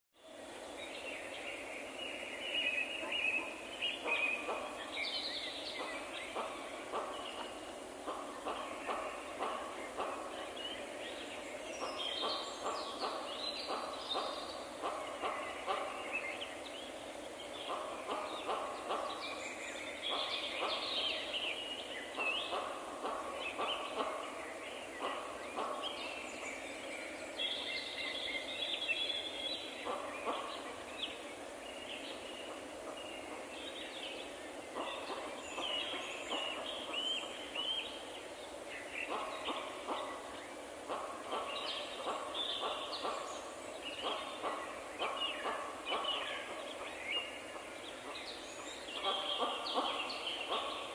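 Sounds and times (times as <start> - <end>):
low rapid bird calls: 0.8 - 50.9.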